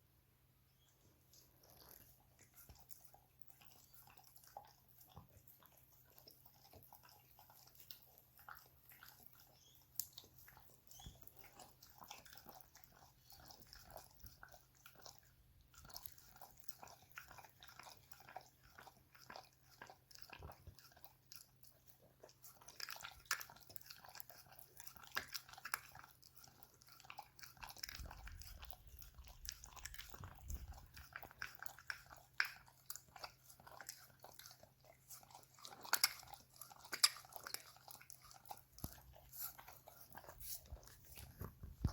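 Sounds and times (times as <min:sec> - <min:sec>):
dog chewing on a toy: 0:01.3 - 0:41.9.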